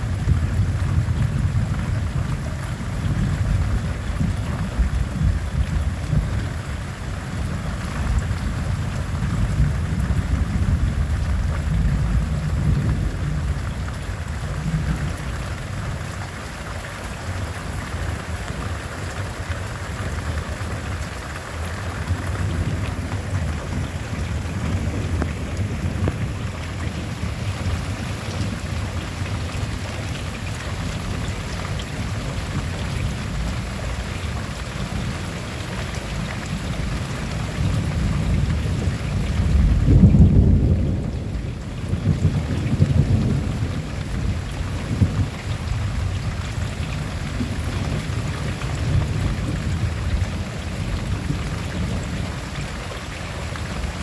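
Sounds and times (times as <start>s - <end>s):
thunder rumbling: 0.0s - 16.3s, 19.6s - 54.0s
heavy rain hissing: 0.0s - 54.0s.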